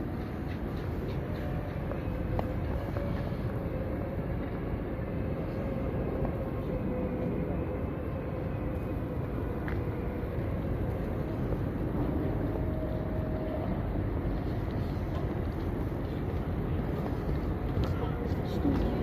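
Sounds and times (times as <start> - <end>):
city background rumble: 0.0 - 19.0.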